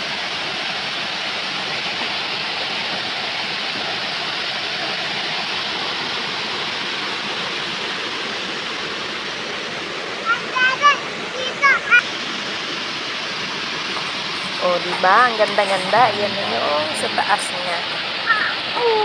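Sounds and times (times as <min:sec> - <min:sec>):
small waterfall pouring: 0:00.0 - 0:19.0.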